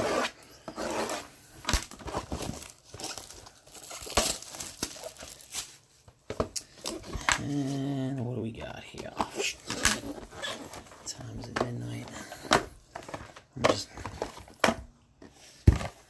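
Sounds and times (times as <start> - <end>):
wrappers crinkling and rustling: 0.8 - 14.6.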